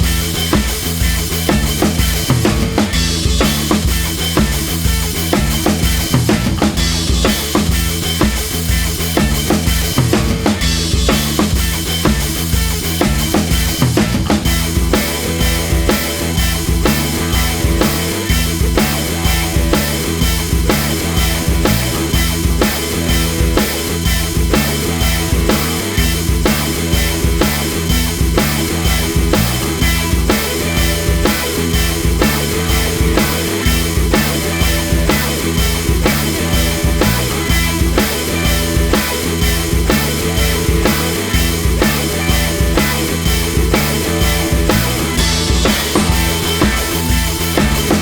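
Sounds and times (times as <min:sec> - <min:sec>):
bass line: 0:00.0 - 0:48.0
drum-kit beat: 0:00.0 - 0:48.0.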